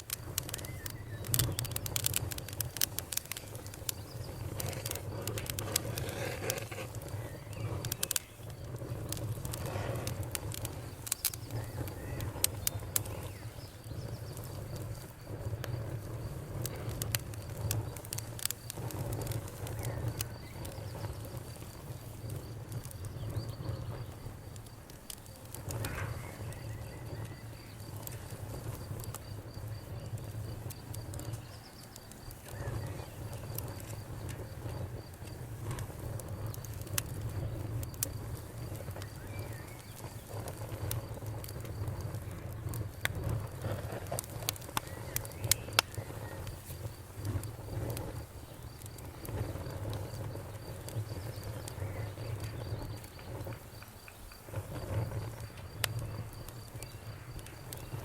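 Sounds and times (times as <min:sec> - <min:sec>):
bonfire crackling and popping: 0:00.0 - 0:58.0
crickets chirping: 0:00.0 - 0:58.0.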